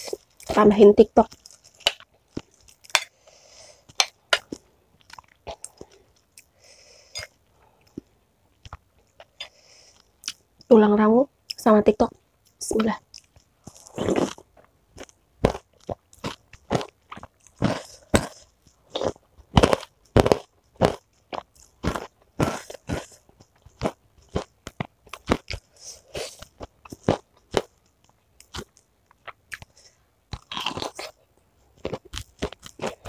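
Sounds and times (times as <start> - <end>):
chewing crunchy fried chicken: 1.2 - 10.6, 12.5 - 33.0.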